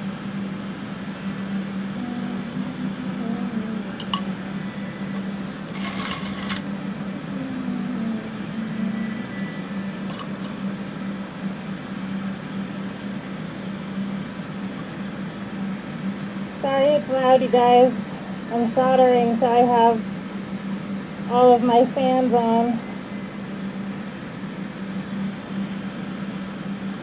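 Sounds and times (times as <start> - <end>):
electric fans rushing: 0.0 - 27.0.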